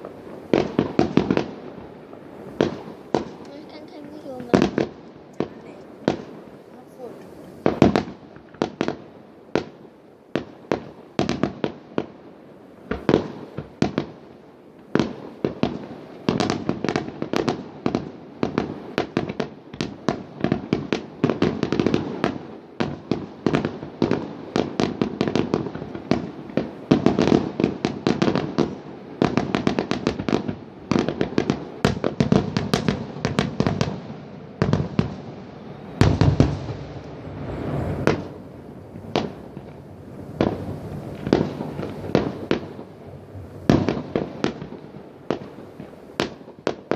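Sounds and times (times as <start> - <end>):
fireworks bangs and cracks: 0.0 - 46.9.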